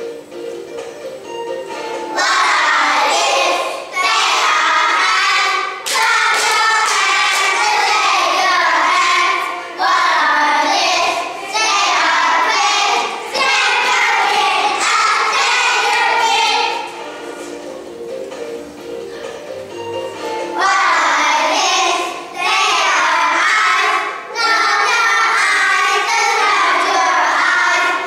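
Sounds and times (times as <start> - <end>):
children singing in unison: 2.1 - 17.6, 20.5 - 28.0.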